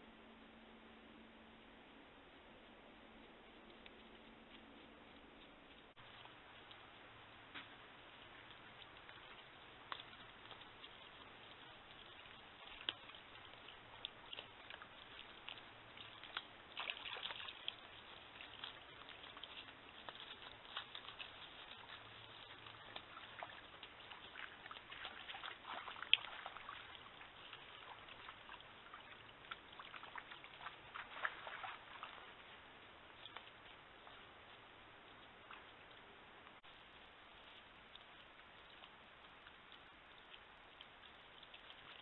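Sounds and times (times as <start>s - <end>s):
water trickling and splashing: 3.2s - 42.0s.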